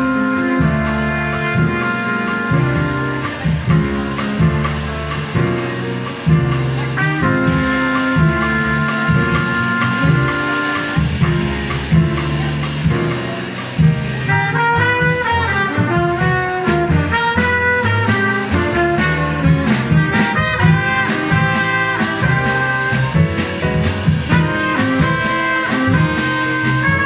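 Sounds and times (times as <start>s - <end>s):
drums with cymbals: 0.0s - 27.0s
piano: 0.0s - 27.0s
trumpet and saxophone melody: 0.0s - 27.0s
upright bass: 0.0s - 27.0s.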